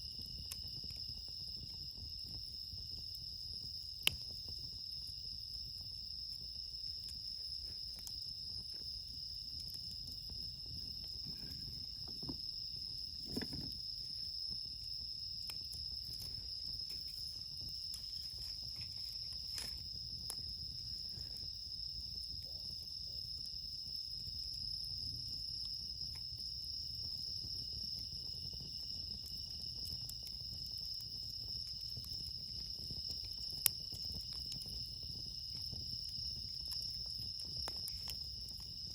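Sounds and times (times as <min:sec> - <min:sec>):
campfire wood snapping: 0:00.0 - 0:21.6, 0:24.4 - 0:38.9
crickets chirping: 0:00.0 - 0:38.9.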